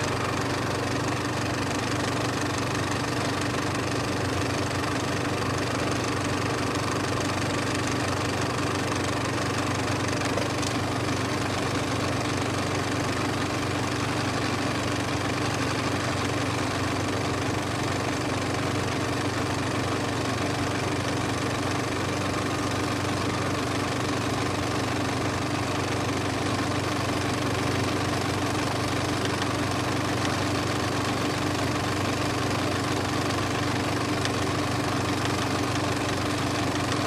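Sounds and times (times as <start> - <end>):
motor humming: 0.0 - 37.0.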